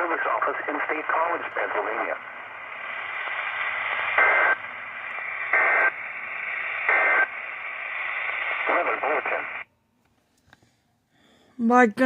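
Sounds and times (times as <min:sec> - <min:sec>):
radio static hiss: 0:00.0 - 0:09.7.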